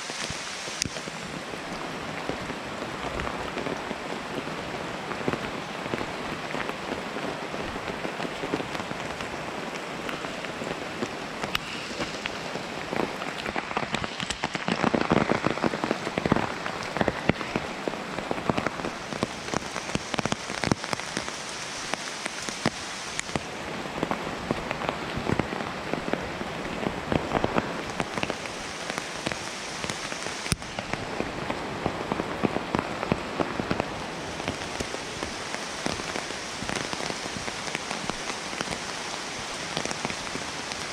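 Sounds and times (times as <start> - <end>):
heavy rain falling: 0.0 - 40.9
raindrops striking close by: 0.0 - 40.9.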